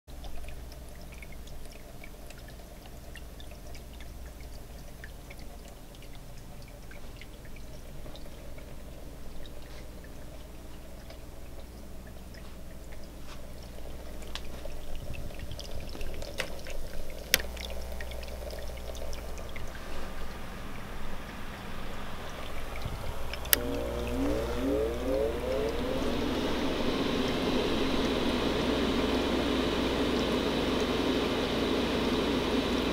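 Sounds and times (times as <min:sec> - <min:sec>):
faint watery bubbling: 0:00.1 - 0:32.9
fan hum: 0:05.3 - 0:32.9.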